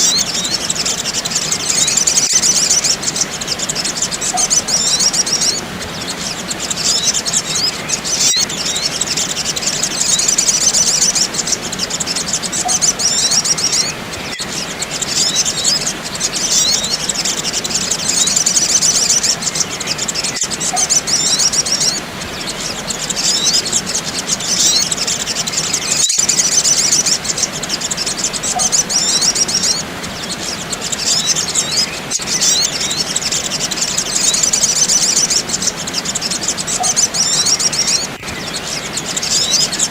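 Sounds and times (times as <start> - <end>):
high-pitched bird chirping: 0.0 - 39.9.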